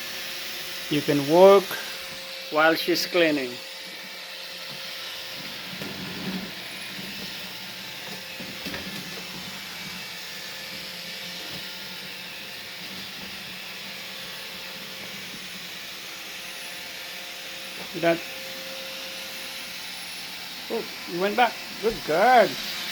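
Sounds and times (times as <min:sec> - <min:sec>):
faint motor hum: 0:00.0 - 0:22.9
robot vacuum whirring: 0:00.0 - 0:22.9.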